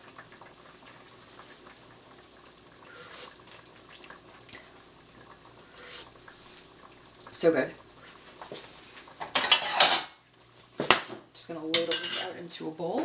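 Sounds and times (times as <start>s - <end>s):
soup bubbling: 0.0s - 13.0s.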